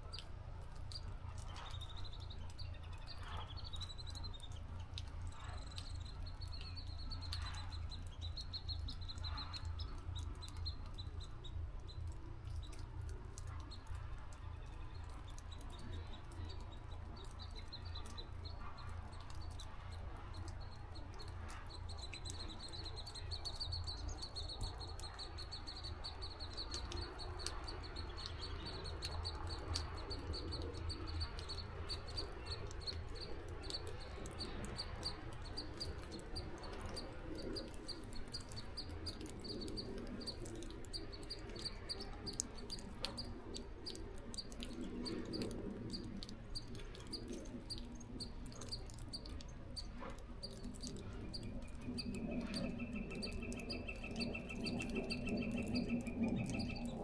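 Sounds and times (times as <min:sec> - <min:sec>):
faint ticks: 0:00.0 - 0:57.0.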